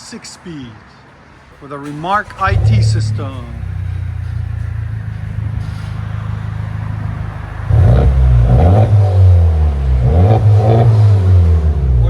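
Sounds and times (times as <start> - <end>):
car engine idling and revving: 2.2 - 12.0.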